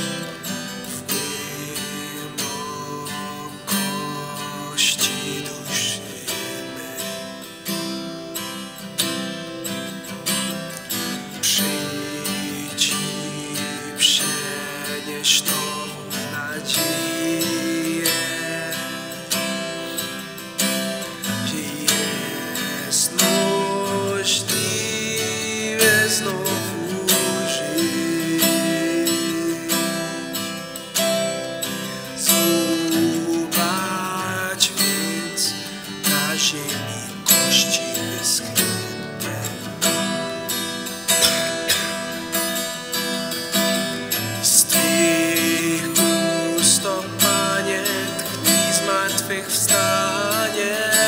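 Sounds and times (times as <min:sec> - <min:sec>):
acoustic guitar strummed chords: 0:00.0 - 0:51.0.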